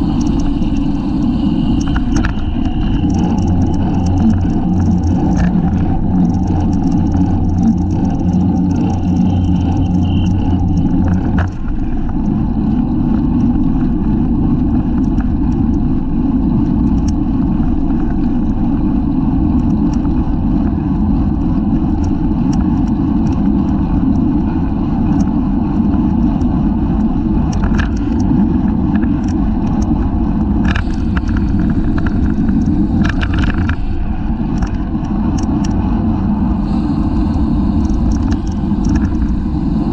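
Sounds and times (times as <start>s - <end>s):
deep rumble of wind and road: 0.0s - 39.9s
low hum: 0.0s - 39.9s
wind buffeting microphone: 0.0s - 39.9s.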